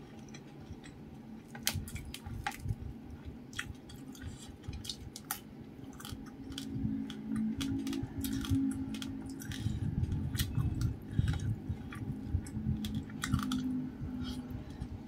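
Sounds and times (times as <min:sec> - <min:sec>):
chewing with wet mouth smacks: 0:01.7 - 0:14.9.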